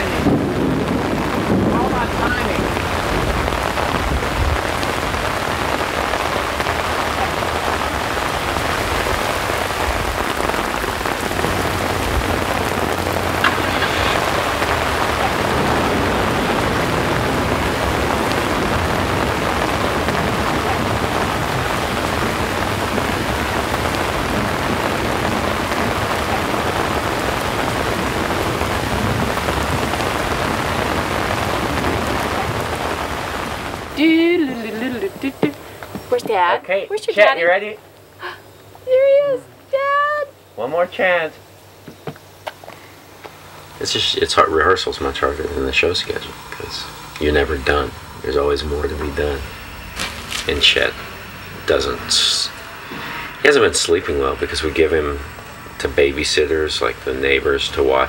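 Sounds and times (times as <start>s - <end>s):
heavy rain on street and cars: 0.0s - 58.0s.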